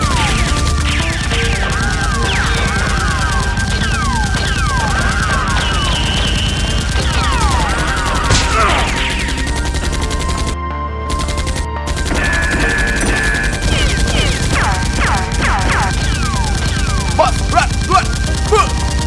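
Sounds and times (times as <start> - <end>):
rapid automatic gunfire effects: 0.0 - 18.7.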